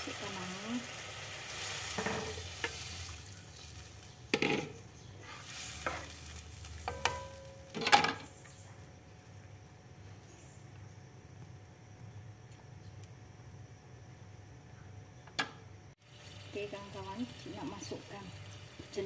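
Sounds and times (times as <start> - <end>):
soft sizzling: 0.0 - 14.6, 15.9 - 19.0.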